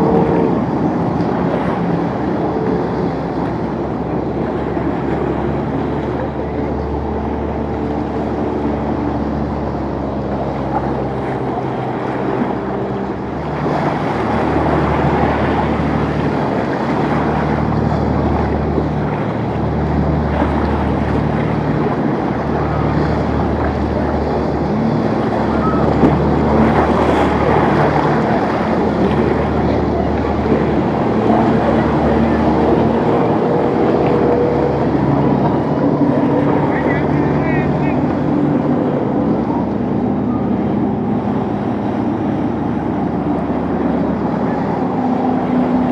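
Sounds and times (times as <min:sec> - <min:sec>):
boat engines running: 0:00.0 - 0:45.9
waves rushing: 0:00.0 - 0:45.9
wind buffeting microphone: 0:00.0 - 0:45.9.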